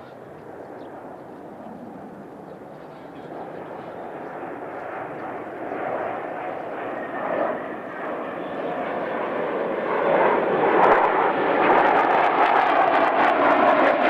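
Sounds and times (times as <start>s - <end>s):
jet engines flying past: 0.0s - 14.0s.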